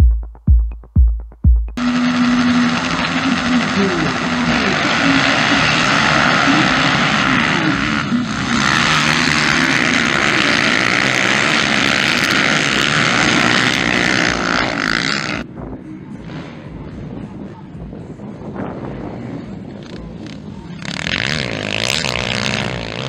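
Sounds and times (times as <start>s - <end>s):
motocross bikes revving and racing: 1.8s - 23.0s.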